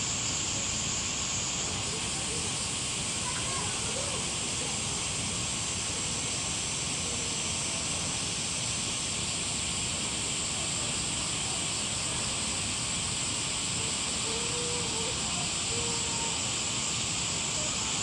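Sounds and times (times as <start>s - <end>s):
steady high-pitched hiss: 0.0s - 18.0s.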